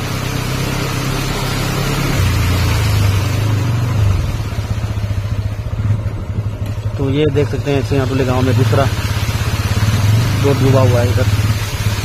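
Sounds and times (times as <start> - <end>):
motorcycle engine running: 0.0 - 12.0
water splashing around wheels: 0.0 - 12.0.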